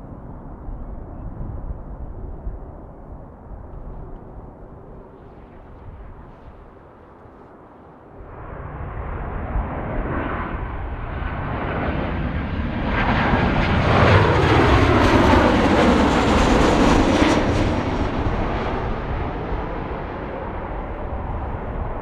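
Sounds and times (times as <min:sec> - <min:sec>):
jet airliner passing: 0:00.0 - 0:22.0.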